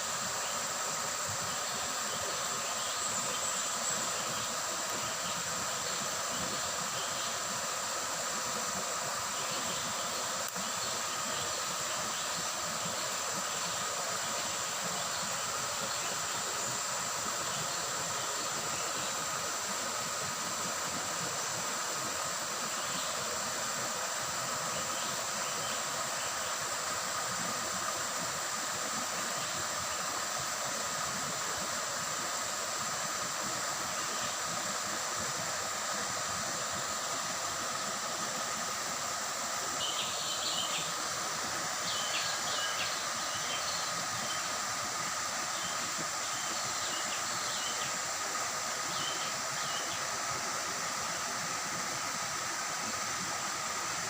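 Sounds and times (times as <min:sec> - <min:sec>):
high insect drone: 0:00.0 - 0:54.0
river water babbling over stones: 0:00.0 - 0:54.0.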